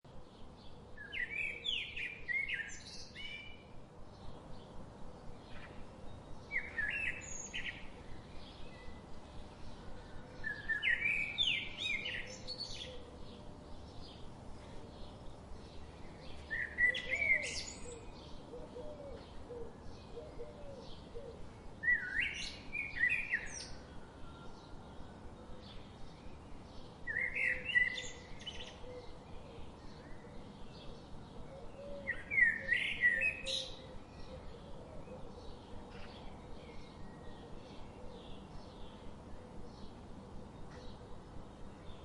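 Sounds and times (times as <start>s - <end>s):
faint birds chirping: 0.0s - 42.0s
songbird singing loud phrase: 0.1s - 42.0s.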